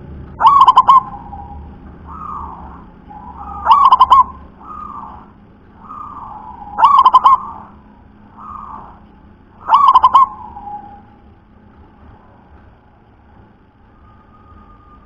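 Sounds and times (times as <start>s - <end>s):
dove rolling cooing phrases: 0.0s - 12.3s.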